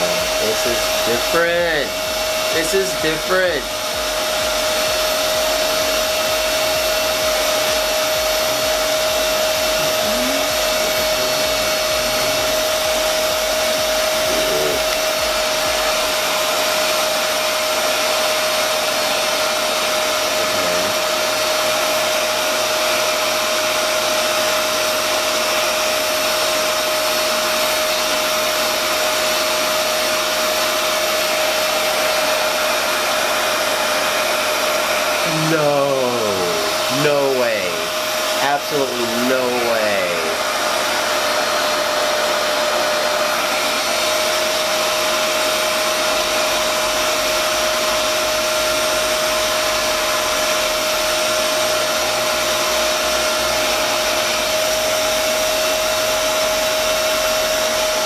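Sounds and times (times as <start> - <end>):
hair dryer rushing and whining: 0.0 - 58.0.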